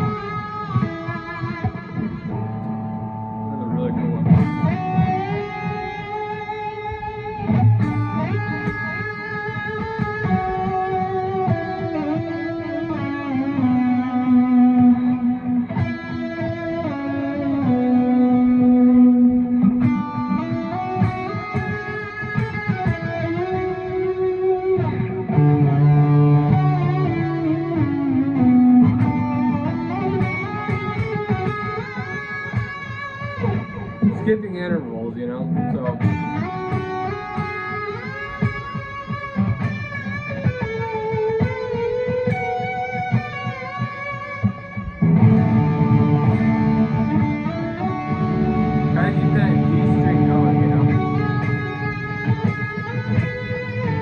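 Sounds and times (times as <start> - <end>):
electric guitar with delay: 0.0 - 54.0.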